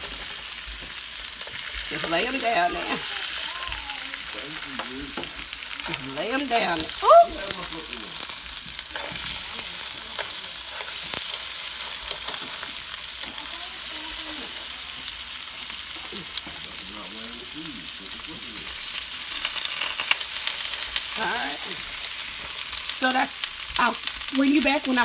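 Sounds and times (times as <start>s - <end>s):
seafood sizzling in a frying pan: 0.0s - 25.0s.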